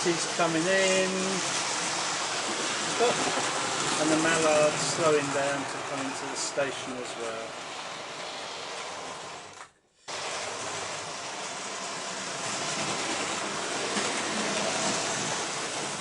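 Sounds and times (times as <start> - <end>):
model trains whirring on track: 0.0 - 16.0.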